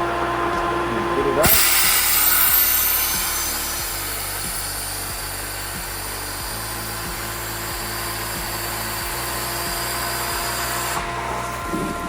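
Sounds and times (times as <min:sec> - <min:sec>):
pool pump humming: 0:00.0 - 0:12.0.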